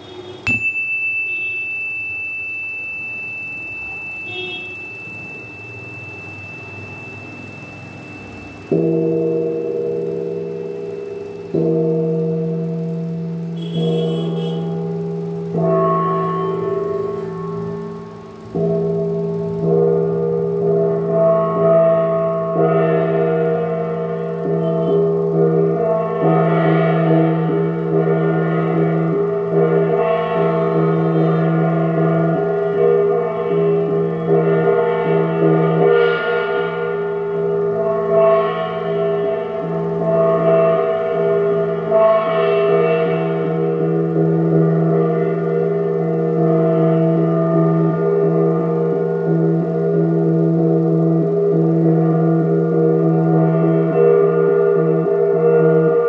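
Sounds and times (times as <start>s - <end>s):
metal gong ringing: 0.5s - 56.0s.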